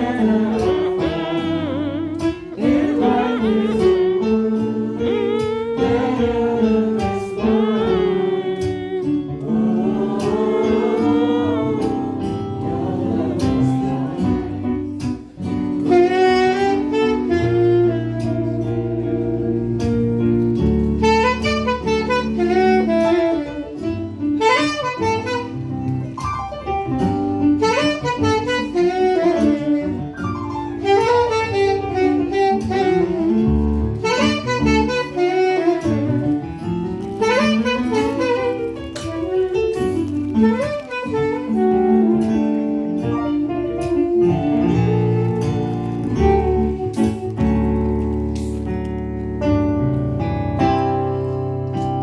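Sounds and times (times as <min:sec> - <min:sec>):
saxophone melody: 0:00.0 - 0:52.0.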